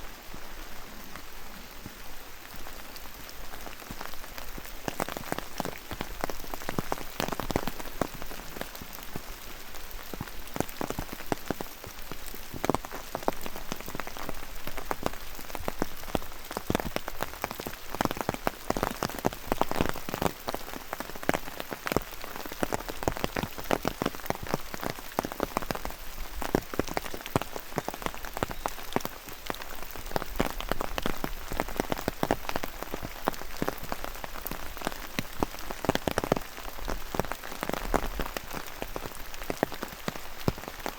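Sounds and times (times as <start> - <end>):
close raindrop impacts: 0.0 - 40.9
rain falling: 0.0 - 40.9.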